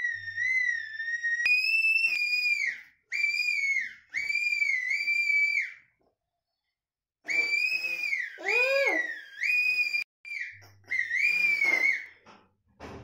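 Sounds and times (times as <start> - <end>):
balloon whistle notes: 0.0 - 5.8, 7.3 - 12.1.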